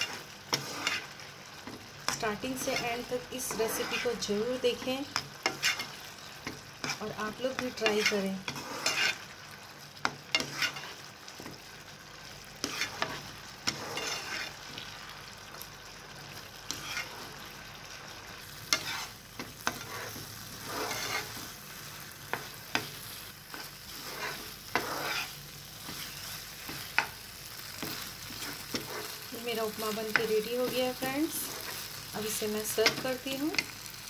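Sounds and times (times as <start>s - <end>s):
spatula scraping a frying pan: 0.0s - 11.8s, 12.5s - 15.0s, 16.2s - 34.0s
food sizzling: 0.0s - 34.0s.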